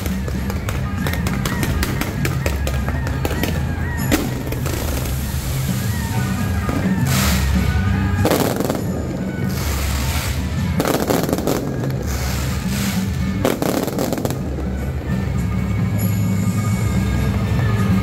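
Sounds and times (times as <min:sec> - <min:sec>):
fireworks bursting and crackling: 0:00.0 - 0:16.7
loud music with bass: 0:00.0 - 0:18.0.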